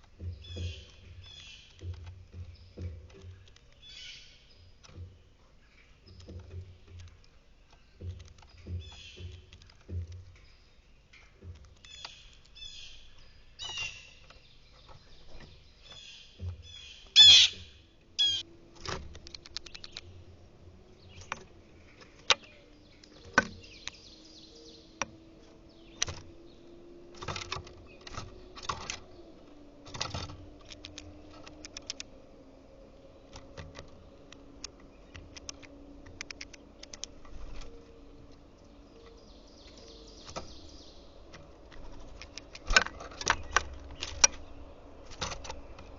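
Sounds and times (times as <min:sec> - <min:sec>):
birds pecking at feeder: 0:00.0 - 0:45.9
small birds chirping: 0:00.0 - 0:45.9.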